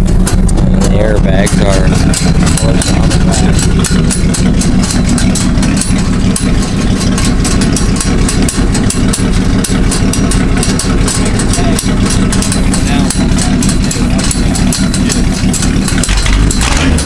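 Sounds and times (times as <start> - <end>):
motor running with pulsing hum: 0.0 - 17.0.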